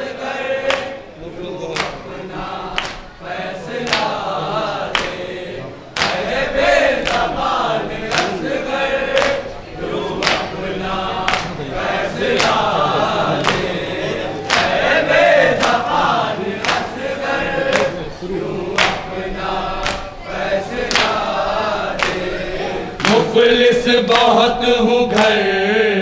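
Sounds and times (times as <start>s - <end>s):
men chanting in chorus: 0.0s - 26.0s.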